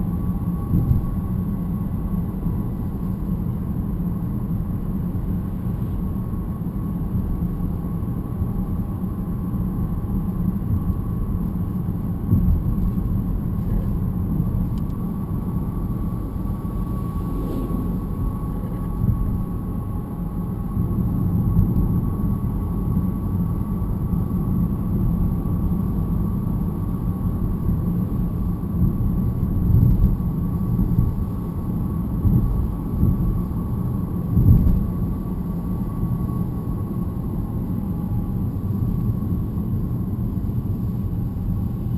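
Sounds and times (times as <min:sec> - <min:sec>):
car road and drivetrain rumble: 0:00.0 - 0:41.9.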